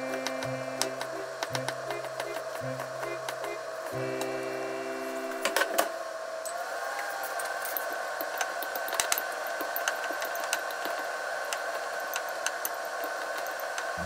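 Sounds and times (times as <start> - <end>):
steady whirring hum: 0.0 - 14.0.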